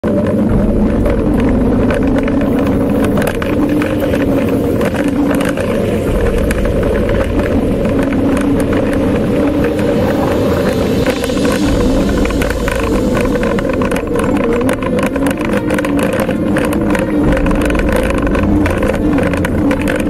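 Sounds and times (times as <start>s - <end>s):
bike rattling on gravel: 0.0s - 20.0s
wind buffeting microphone: 0.0s - 20.0s.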